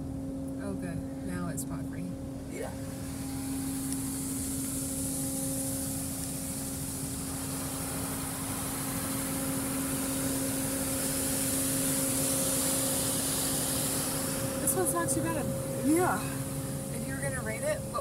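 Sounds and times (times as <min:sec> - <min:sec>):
constant hum: 0:00.0 - 0:18.0
water spray hissing on car: 0:02.9 - 0:17.6.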